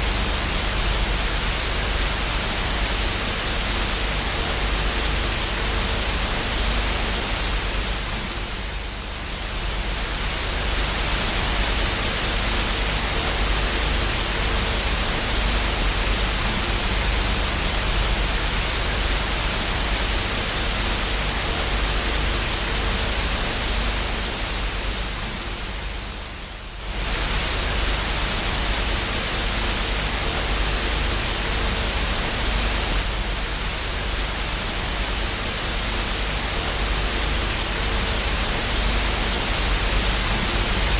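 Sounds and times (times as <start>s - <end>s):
television static hiss: 0.0s - 40.9s.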